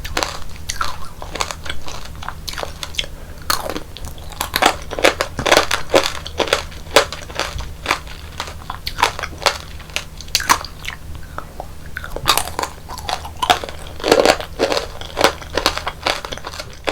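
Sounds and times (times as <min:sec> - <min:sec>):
candy shell crunching: 0:00.0 - 0:11.0, 0:12.0 - 0:16.9
faint low hum: 0:00.0 - 0:16.9.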